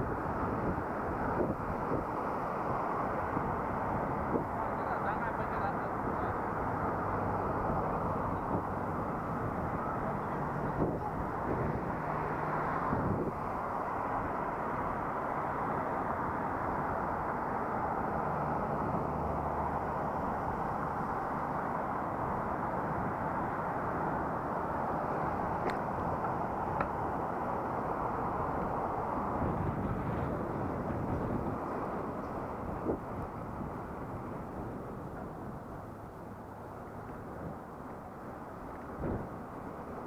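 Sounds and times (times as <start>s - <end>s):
road noise: 0.0s - 40.0s
wind noise: 0.0s - 40.0s.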